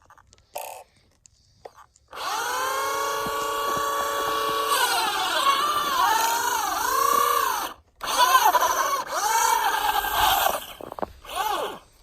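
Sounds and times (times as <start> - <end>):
rc truck electric motor whining: 2.1 - 12.0.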